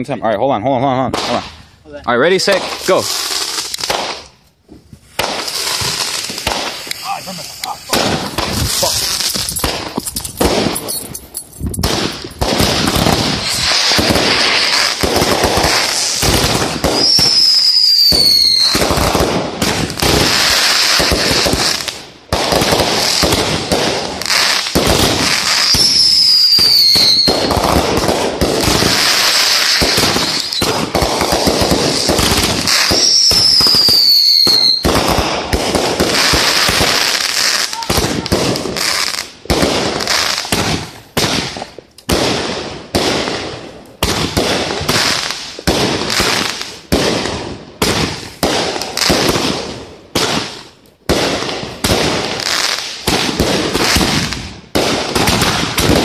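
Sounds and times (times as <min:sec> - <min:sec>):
firework shots and crackling bursts: 0:01.0 - 0:56.0.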